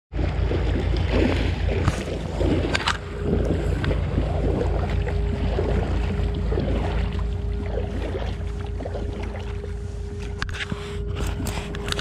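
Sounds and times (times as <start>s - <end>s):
water lapping against kayak hull: 0.1s - 12.0s
faint steady hum: 0.2s - 12.0s
heavy low rumble: 0.2s - 12.0s.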